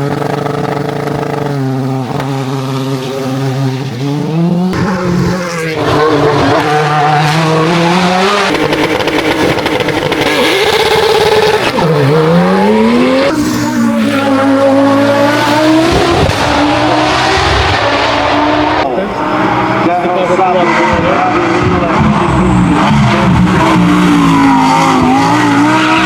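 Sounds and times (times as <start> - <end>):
race car engine accelerating: 0.0 - 26.0.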